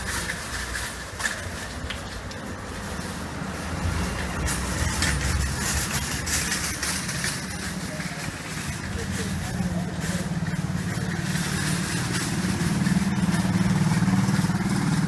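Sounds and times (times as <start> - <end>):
vehicle rumbling with hiss: 0.0 - 15.0.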